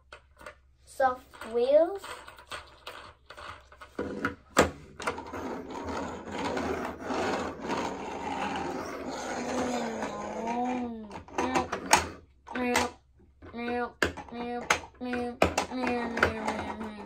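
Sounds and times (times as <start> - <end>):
toy car wheels rolling on wood: 0.1 - 12.9, 13.5 - 17.0.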